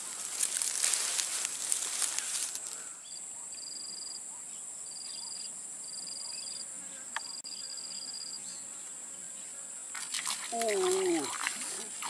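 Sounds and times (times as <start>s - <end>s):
insects droning and trilling: 0.0s - 12.0s.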